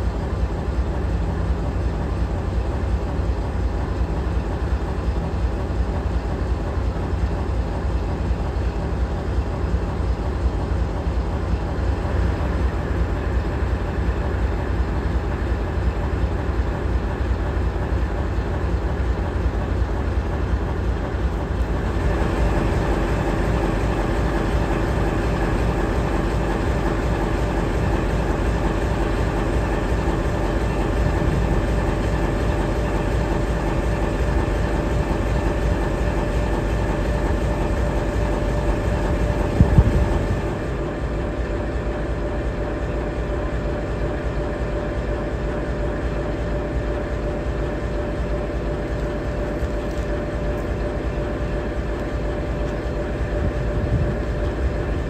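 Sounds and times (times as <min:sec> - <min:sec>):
diesel locomotive idling: 0:00.0 - 0:55.0
high steady whine: 0:10.2 - 0:55.0.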